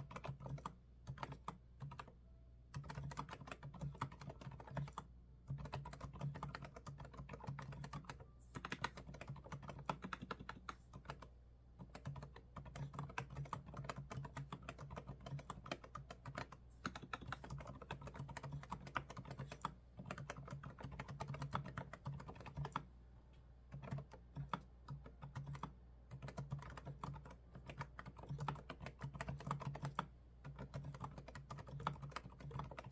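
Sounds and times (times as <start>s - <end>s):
fast typing on keyboard: 0.0s - 2.1s, 2.7s - 22.9s, 23.7s - 32.9s.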